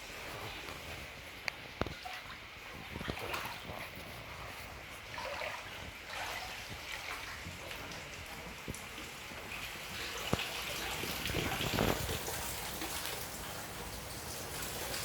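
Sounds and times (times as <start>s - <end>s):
floodwater splashing and trickling: 0.0s - 15.0s.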